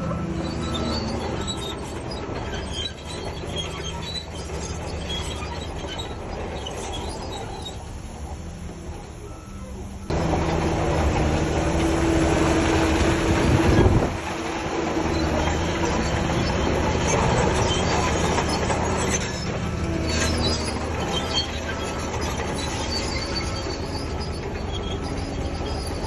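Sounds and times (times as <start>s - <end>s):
diesel engine running: 0.0s - 26.0s
steel tracks clanking and squealing: 0.0s - 26.0s.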